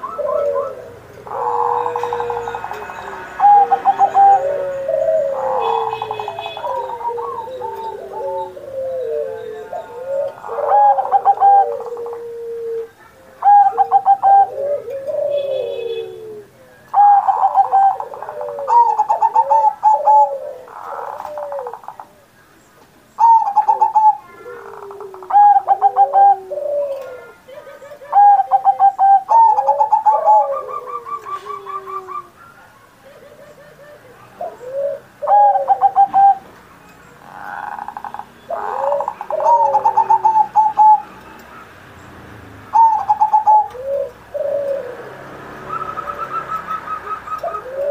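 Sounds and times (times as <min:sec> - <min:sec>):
dove cooing: 0:00.0 - 0:22.3, 0:23.2 - 0:41.7, 0:42.6 - 0:47.9.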